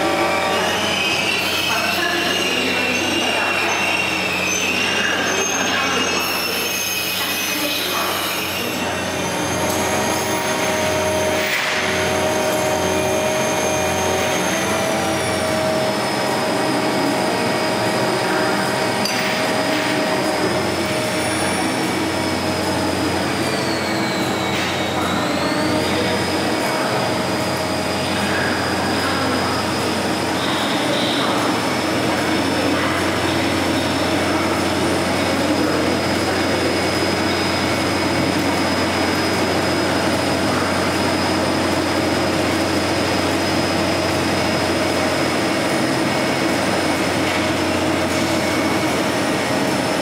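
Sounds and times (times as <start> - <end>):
railway crane engine humming: 0.0 - 50.0.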